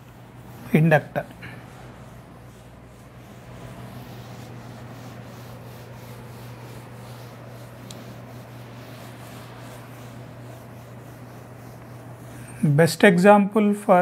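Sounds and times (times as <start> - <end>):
eraser wiping whiteboard: 0.0 - 12.9
steady low hum: 0.0 - 14.0.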